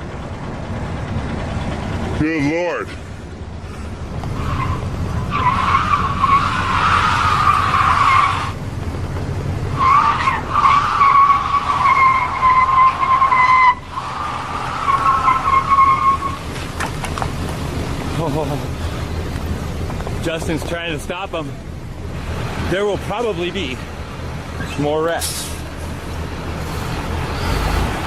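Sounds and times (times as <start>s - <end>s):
car tyres squealing: 3.6s - 8.6s, 9.7s - 23.9s, 24.5s - 28.0s.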